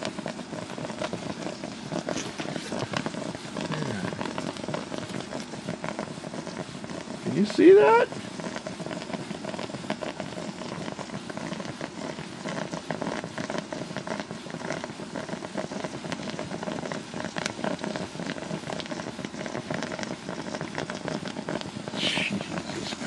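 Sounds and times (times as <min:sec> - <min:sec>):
water boiling hard: 0:00.0 - 0:23.0.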